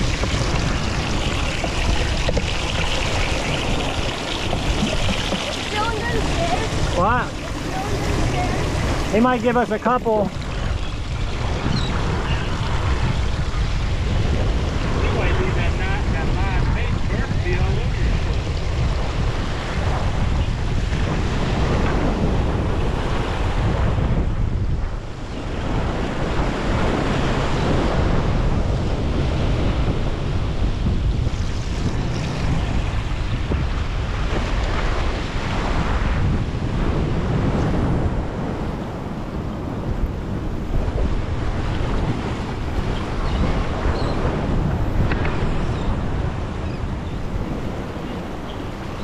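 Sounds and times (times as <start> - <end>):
ocean surf breaking over rocks: 0.0 - 49.0
wind buffeting microphone: 0.0 - 49.0.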